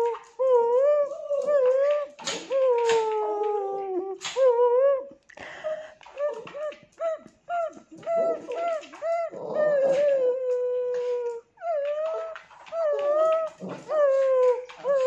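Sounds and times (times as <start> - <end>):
small dog whining and howling: 0.0 - 5.1, 6.1 - 15.0.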